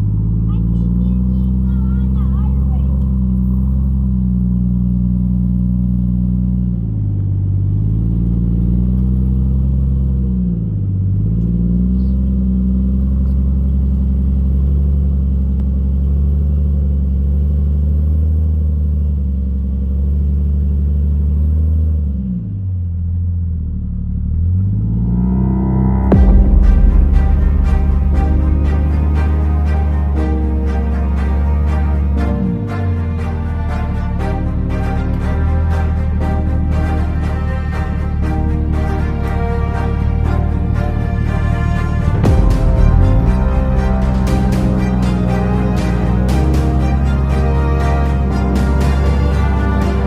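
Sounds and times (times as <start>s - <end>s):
car engine running: 0.0s - 50.0s.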